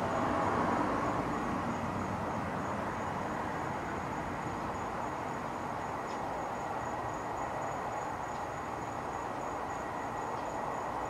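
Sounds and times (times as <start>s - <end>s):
faint insect trill: 0.0s - 11.0s
traffic rumble: 0.0s - 11.0s.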